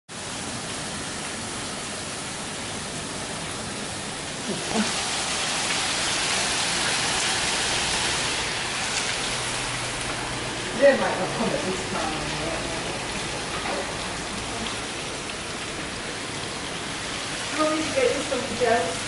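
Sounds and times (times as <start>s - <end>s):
heavy rain on patio and lawn: 0.1s - 19.0s.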